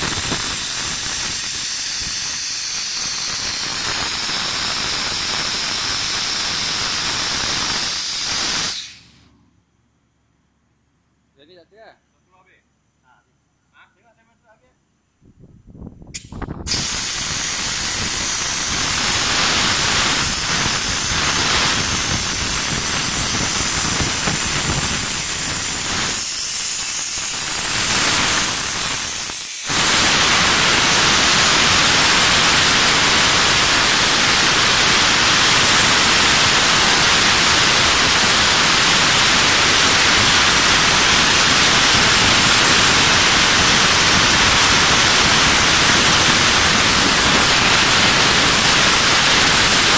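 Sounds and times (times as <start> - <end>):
compressed gas hissing from cylinder: 0.0 - 9.3, 16.0 - 49.9.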